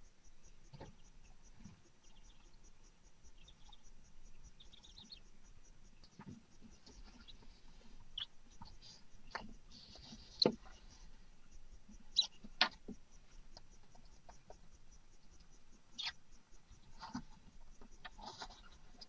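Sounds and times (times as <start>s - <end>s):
faint scratching and shuffling: 0.0s - 19.0s.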